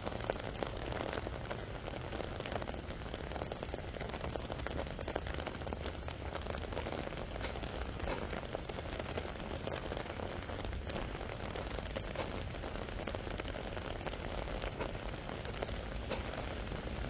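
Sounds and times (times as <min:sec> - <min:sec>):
rain on umbrella: 0:00.0 - 0:17.0.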